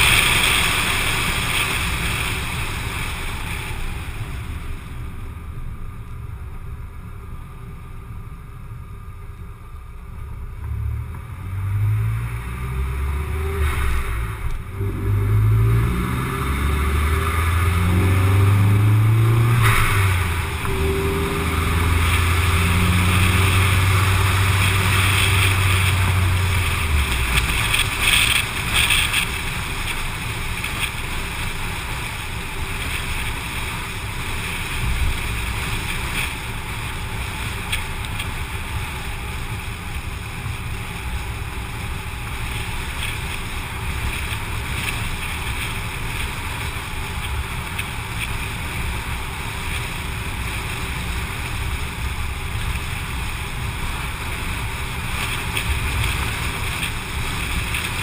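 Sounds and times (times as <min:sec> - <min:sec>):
car engine hum: 0:00.0 - 0:58.0.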